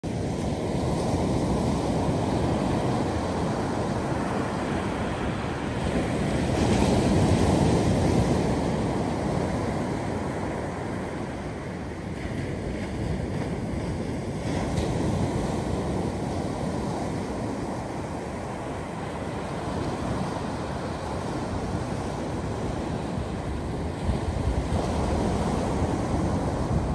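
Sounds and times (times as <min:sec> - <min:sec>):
ocean surf on a beach: 0:00.0 - 0:26.9.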